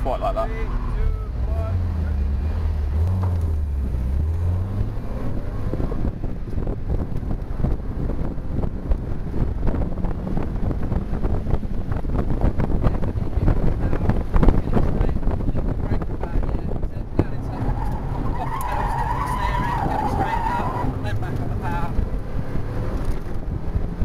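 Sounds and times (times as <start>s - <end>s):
wind buffeting microphone: 3.2s - 24.0s.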